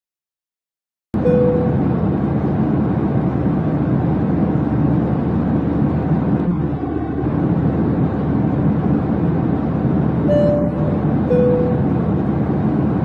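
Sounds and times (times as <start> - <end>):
steady low rumbling: 1.2 - 13.0.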